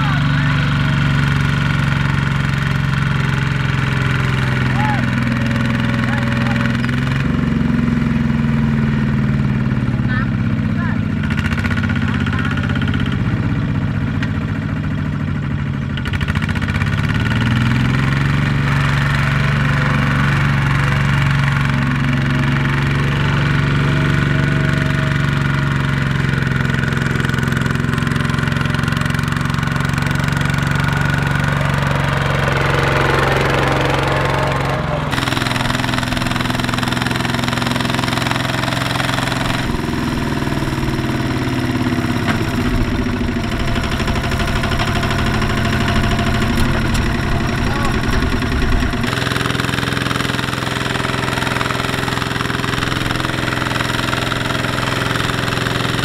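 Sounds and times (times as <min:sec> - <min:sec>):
diesel tractor engine under load: 0:00.0 - 0:56.0.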